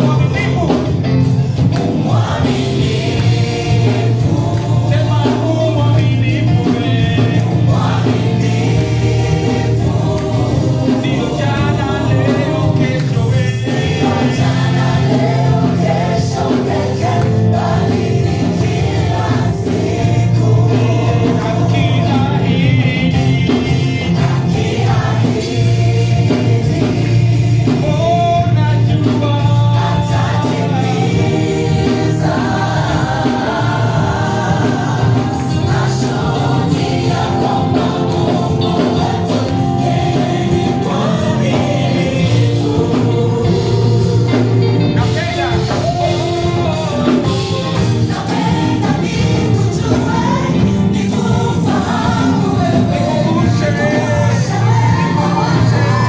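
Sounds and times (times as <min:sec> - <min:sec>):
choir singing gospel music: 0:00.0 - 0:56.0.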